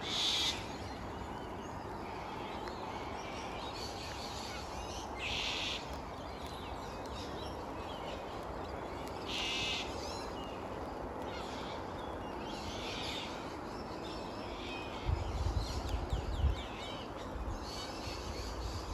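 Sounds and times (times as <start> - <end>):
birds calling: 0.0 - 18.9
steady background hiss: 0.0 - 18.9.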